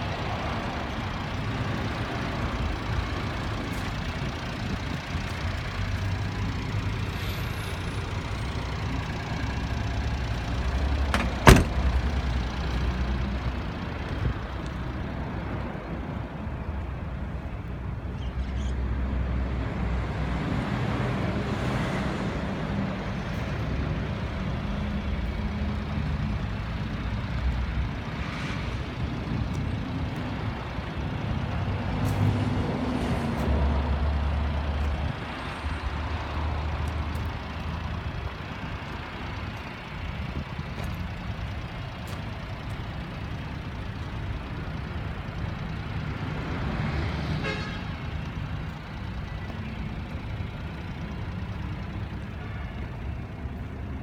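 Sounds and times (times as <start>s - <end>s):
small truck engine idling: 0.0s - 18.7s, 22.4s - 54.0s.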